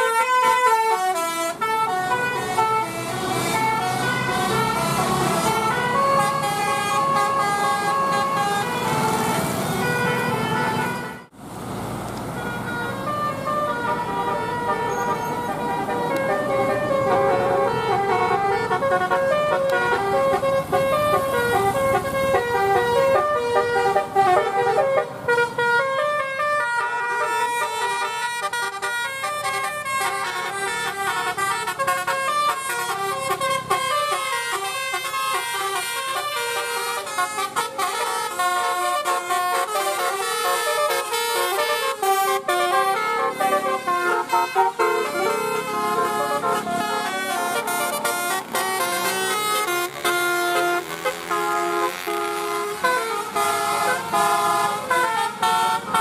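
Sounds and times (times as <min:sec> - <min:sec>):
multi-tone air horn melody: 0:00.0 - 0:11.3, 0:12.4 - 0:56.0.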